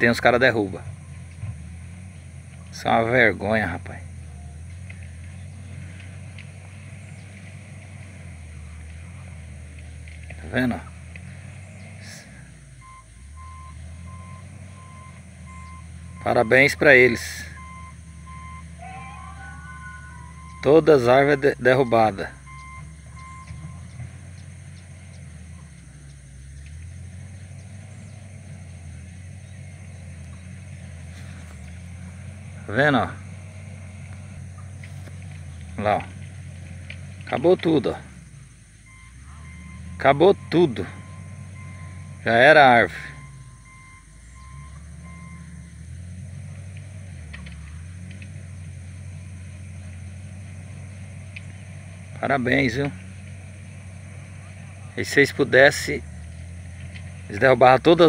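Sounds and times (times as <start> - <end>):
distant heavy machinery rumble: 0.0 - 58.0
faint beeping: 0.0 - 58.0.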